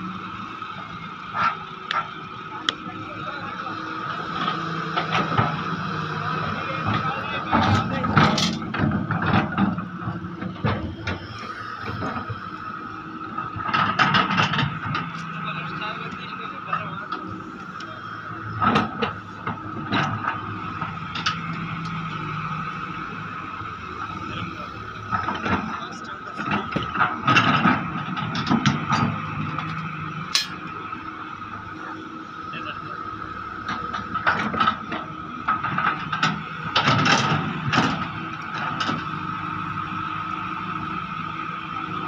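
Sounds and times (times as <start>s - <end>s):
excavator engine humming: 0.0s - 42.0s.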